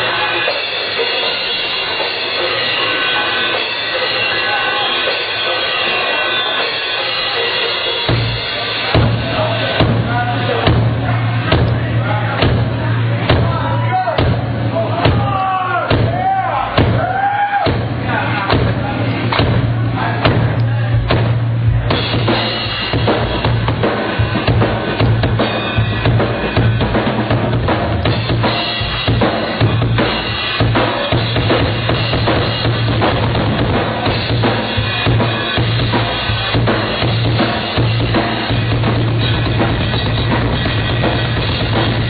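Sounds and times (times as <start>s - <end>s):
rock drum kit playing: 0.0s - 42.0s.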